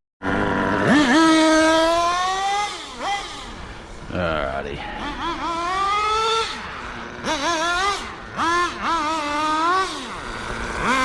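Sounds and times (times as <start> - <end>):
nitro engine revving: 0.2 - 11.0.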